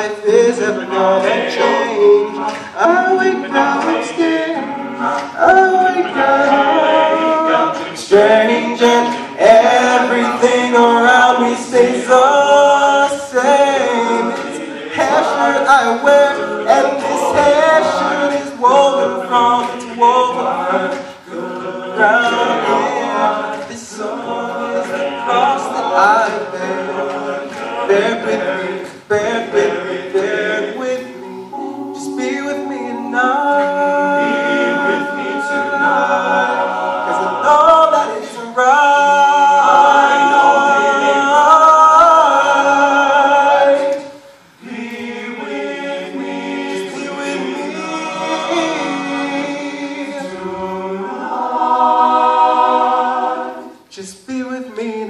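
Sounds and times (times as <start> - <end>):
men's a cappella group singing: 0.0 - 55.0.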